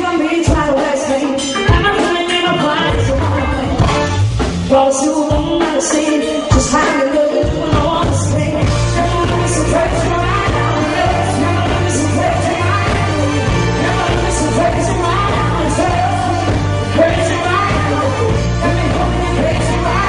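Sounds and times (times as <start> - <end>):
pop song with vocal and band: 0.0 - 20.0.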